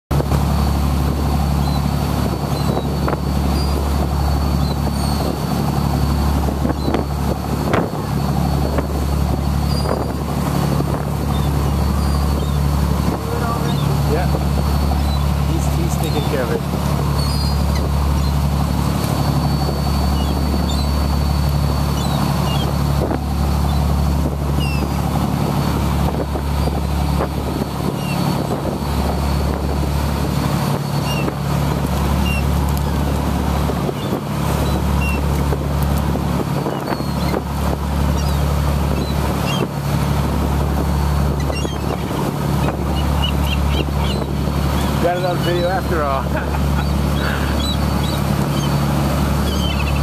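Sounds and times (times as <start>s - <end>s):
boat engine droning: 0.1s - 50.0s
rush of wake and wind: 0.1s - 50.0s
seagulls crying: 0.4s - 50.0s.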